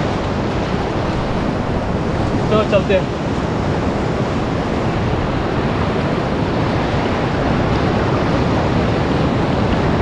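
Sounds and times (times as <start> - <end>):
sea waves washing: 0.0 - 10.0
wind buffeting microphone: 0.0 - 10.0.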